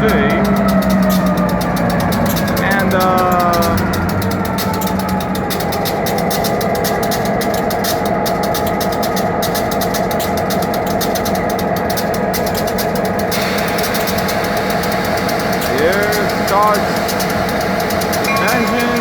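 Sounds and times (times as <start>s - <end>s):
locomotive whine: 0.0s - 8.7s, 11.6s - 19.0s
diesel locomotive engine drone: 0.0s - 19.0s
train wheels clattering: 0.0s - 19.0s.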